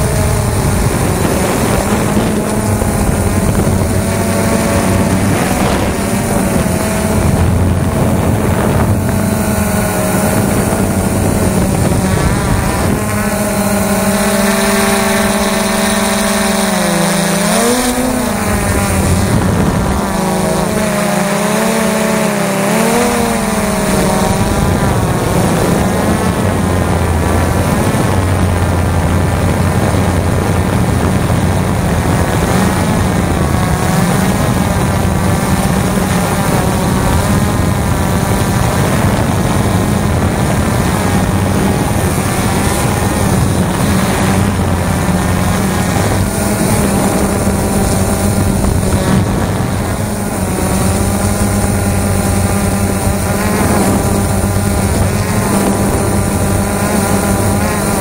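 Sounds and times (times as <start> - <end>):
drone motors and propellers whining: 0.0 - 58.0.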